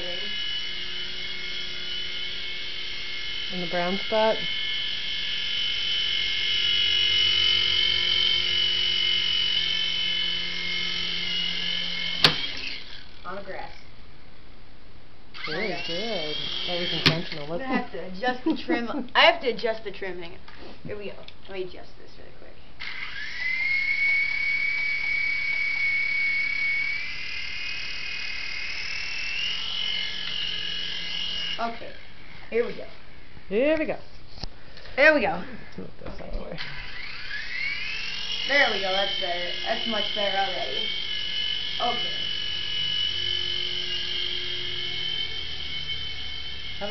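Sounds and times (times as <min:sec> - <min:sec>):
toy helicopter rotor whining: 0:00.0 - 0:13.9, 0:15.4 - 0:20.1, 0:22.8 - 0:33.8, 0:36.6 - 0:46.9.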